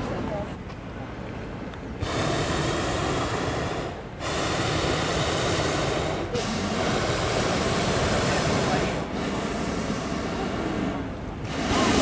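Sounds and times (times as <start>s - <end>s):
propane burner hissing rush: 1.9s - 12.0s.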